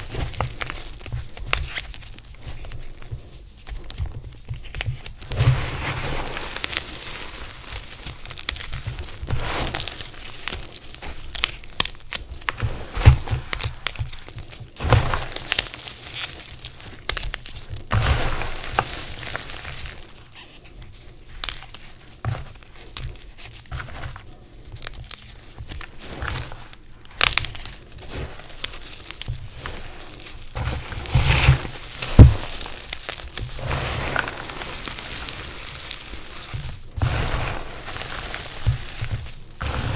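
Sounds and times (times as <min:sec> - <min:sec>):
hands crushing chalk: 0:00.0 - 0:39.9.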